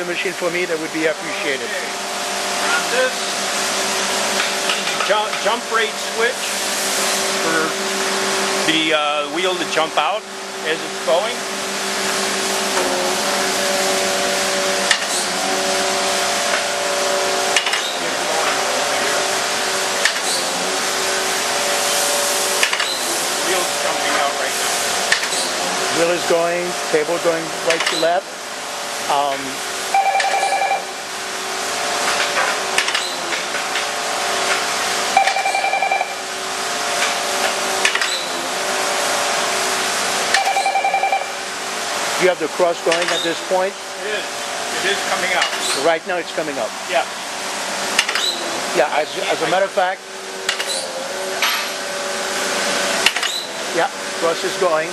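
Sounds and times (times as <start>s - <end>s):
surface grinder hiss and hum: 0.0s - 54.9s.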